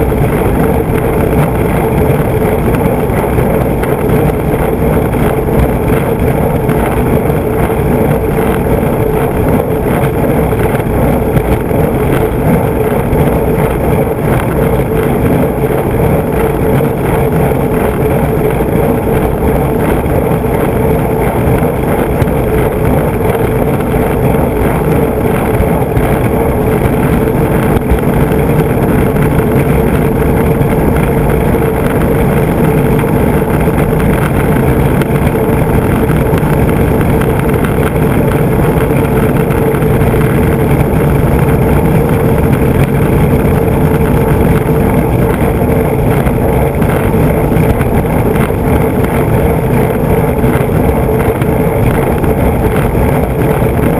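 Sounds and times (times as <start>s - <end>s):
skateboard wheels rolling on asphalt: 0.0s - 53.9s.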